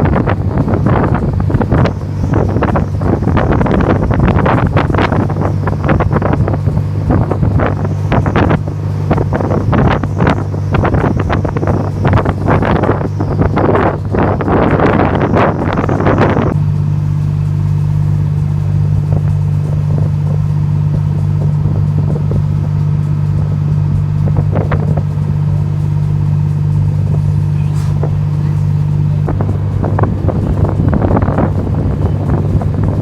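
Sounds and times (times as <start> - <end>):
boat motor droning: 0.0 - 33.0
wind buffeting microphone: 0.0 - 33.0.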